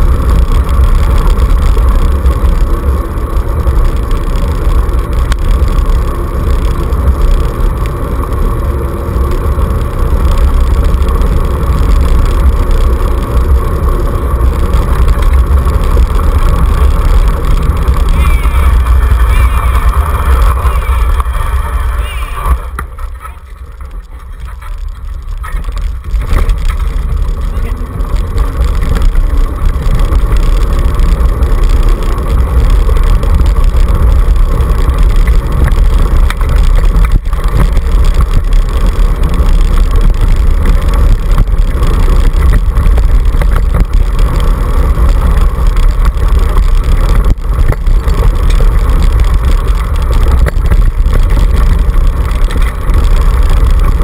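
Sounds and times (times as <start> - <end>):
tyres rumbling on gravel: 0.0 - 54.0.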